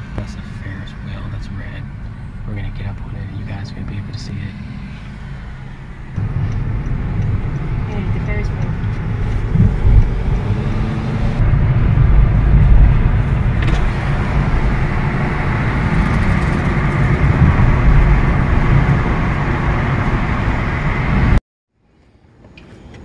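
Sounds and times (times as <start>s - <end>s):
car road noise rumble: 0.0s - 21.4s.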